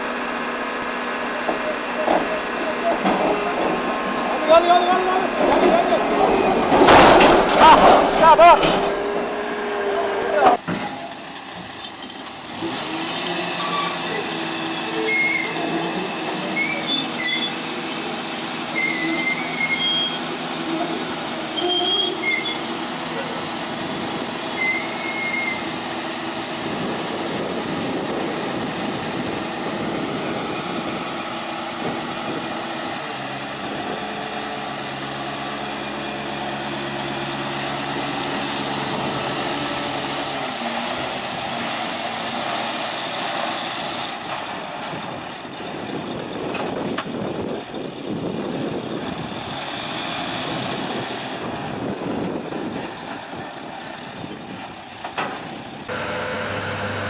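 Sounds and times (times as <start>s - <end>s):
heavy vehicle engine running: 0.0s - 57.0s.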